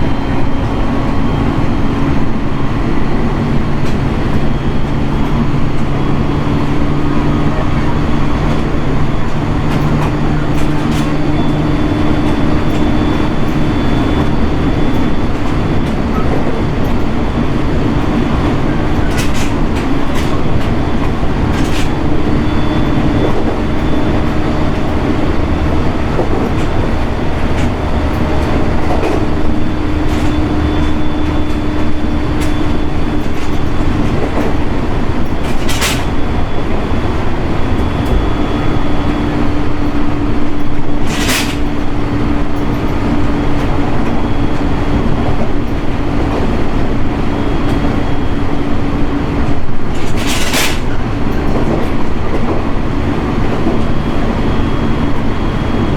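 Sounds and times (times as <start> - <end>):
train motor hum: 0.0 - 55.9
train wheels rumbling on rail: 0.0 - 55.9.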